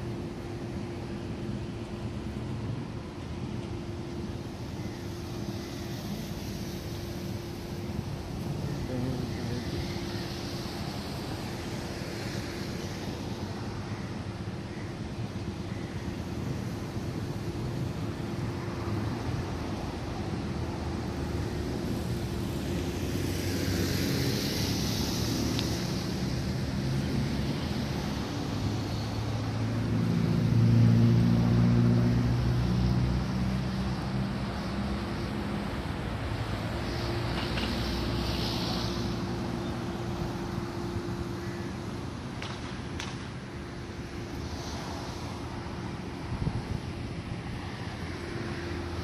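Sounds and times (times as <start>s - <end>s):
constant hum: 0.0s - 49.0s.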